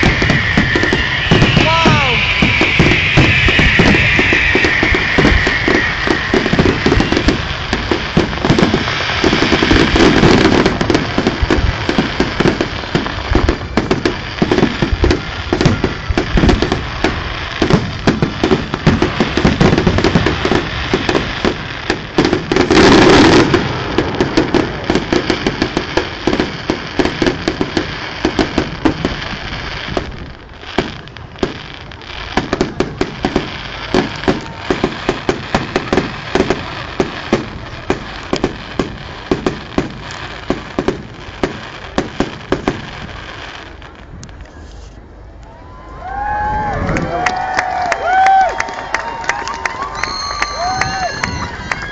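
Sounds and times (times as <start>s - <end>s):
fireworks bangs and crackling: 0.0s - 51.9s
loud fireworks blast: 0.0s - 51.9s.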